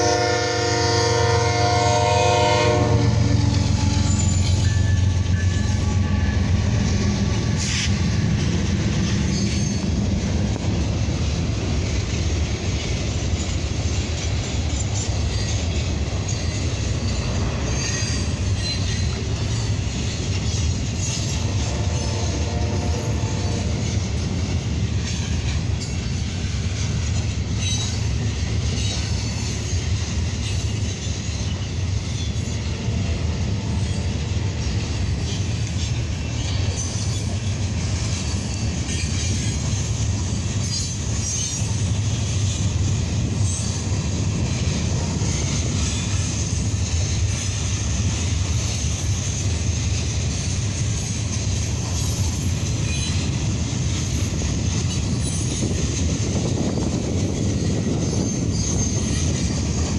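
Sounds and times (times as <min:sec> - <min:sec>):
freight train wheels clattering on rails: 0:00.0 - 0:59.9.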